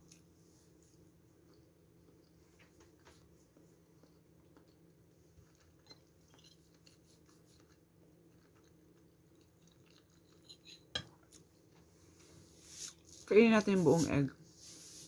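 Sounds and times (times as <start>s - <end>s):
faint chewing: 0.0s - 13.3s
low room hum: 0.0s - 15.0s.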